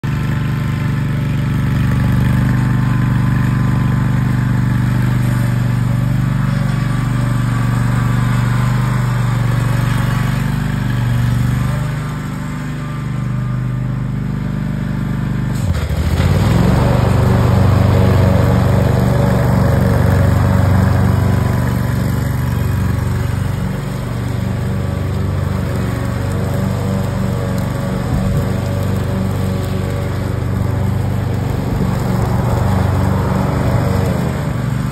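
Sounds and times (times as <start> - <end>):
riding mower engine running: 0.0 - 34.9.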